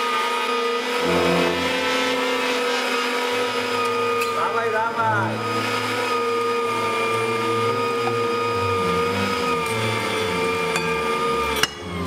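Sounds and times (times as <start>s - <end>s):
electric meat grinder whining: 0.0s - 12.0s.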